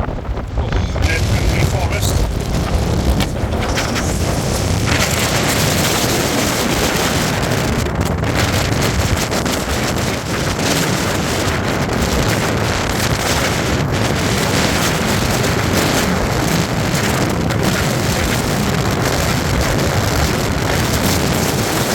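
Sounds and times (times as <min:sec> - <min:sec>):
gale-force wind buffeting microphone: 0:00.0 - 0:21.9.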